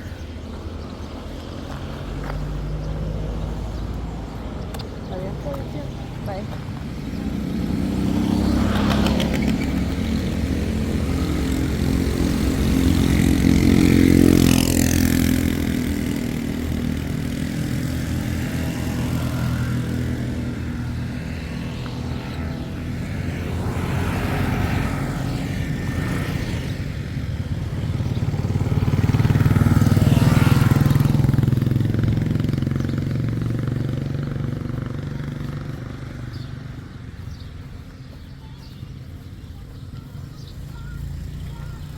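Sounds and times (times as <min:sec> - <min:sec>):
motor vehicle engines running: 0:00.0 - 0:41.9.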